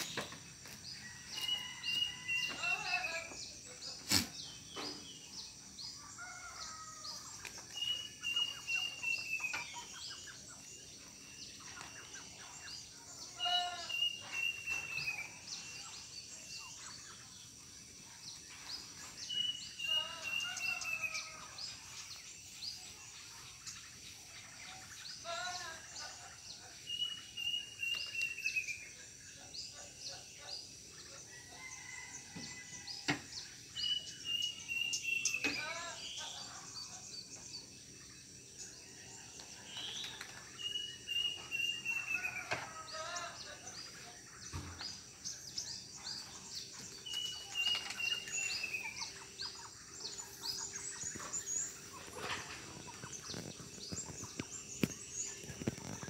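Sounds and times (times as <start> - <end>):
other birds calling: 0.0 - 5.2, 6.0 - 30.0, 39.6 - 56.0.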